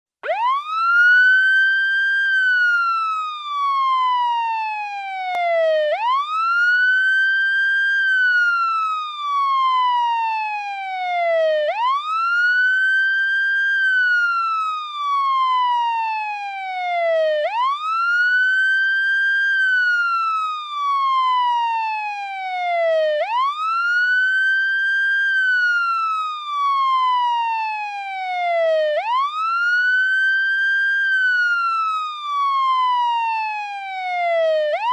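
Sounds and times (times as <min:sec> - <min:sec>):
police siren wailing: 0:00.2 - 0:34.9.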